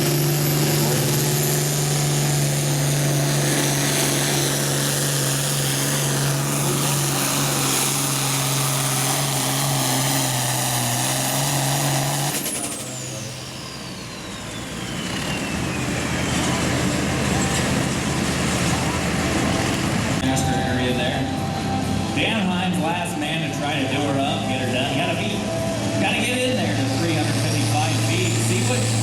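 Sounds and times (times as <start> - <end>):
diesel engine at full throttle: 0.0 - 29.0.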